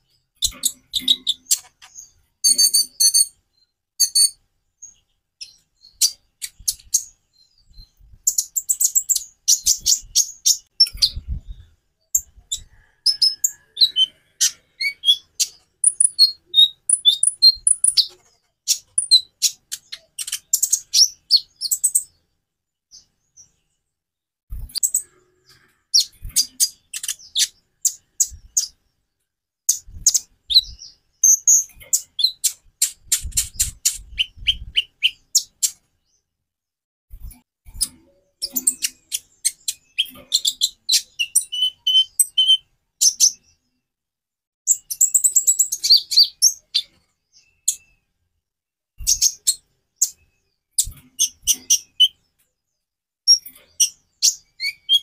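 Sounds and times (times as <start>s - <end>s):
bird high thin chirps and trills: 0.0s - 22.2s, 24.5s - 28.9s, 29.7s - 36.2s, 37.1s - 43.7s, 44.7s - 48.1s, 49.0s - 52.3s, 53.3s - 55.0s.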